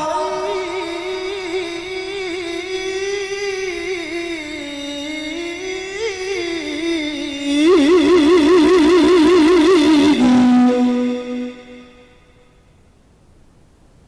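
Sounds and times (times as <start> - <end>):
man reciting melodically: 0.0 - 12.2.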